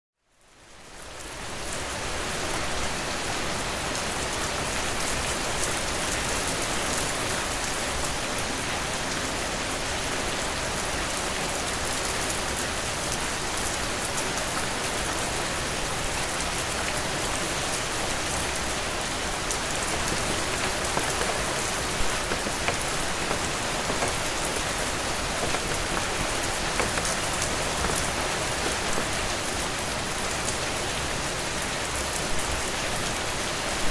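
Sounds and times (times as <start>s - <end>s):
steady rain falling: 0.6s - 33.9s.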